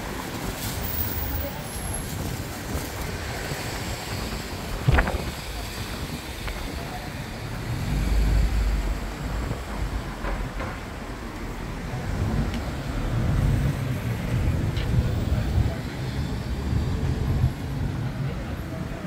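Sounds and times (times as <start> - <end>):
outdoor noise: 0.0 - 19.0
wind buffeting microphone: 0.1 - 19.0.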